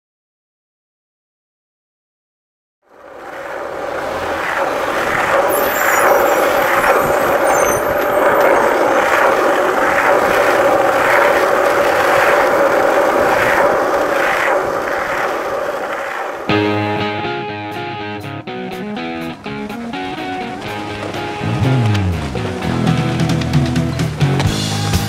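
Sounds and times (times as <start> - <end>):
skateboard wheels rolling on asphalt: 2.8 - 17.2, 18.7 - 25.0.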